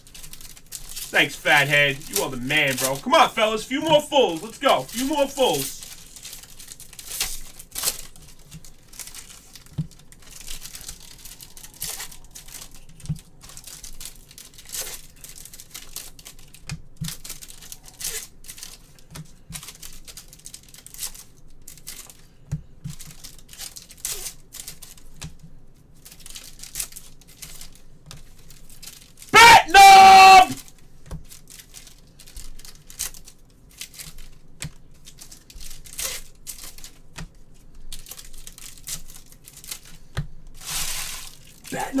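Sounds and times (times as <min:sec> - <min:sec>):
crinkling and rustling: 0:00.0 - 0:29.3, 0:30.6 - 0:42.0.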